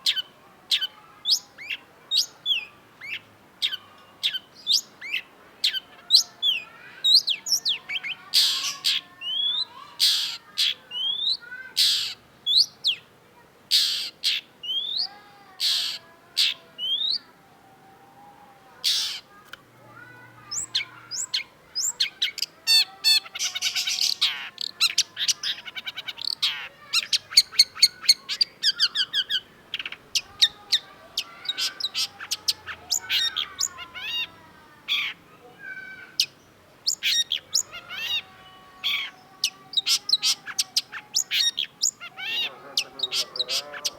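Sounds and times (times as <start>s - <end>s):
bird singing varied song: 0.0s - 13.1s, 13.7s - 17.3s, 18.2s - 43.9s.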